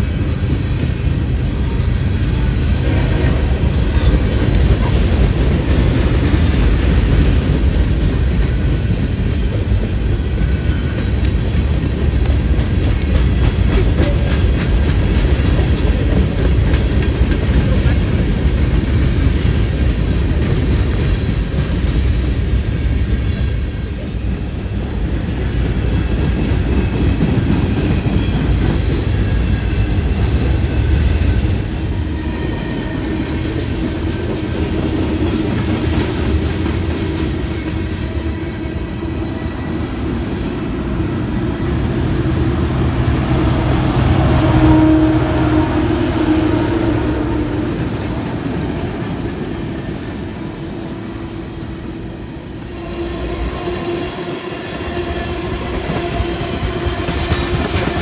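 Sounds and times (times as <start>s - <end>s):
train rumbling past: 0.0s - 58.0s
train wheel clatter: 0.0s - 58.0s.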